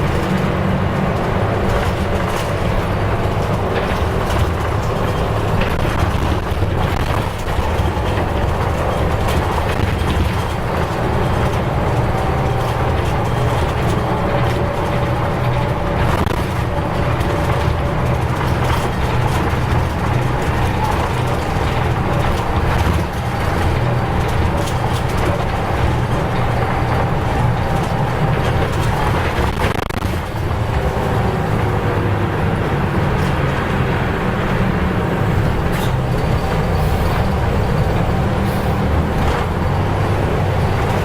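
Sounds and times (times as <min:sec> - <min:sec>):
bus diesel engine droning: 0:00.0 - 0:41.0.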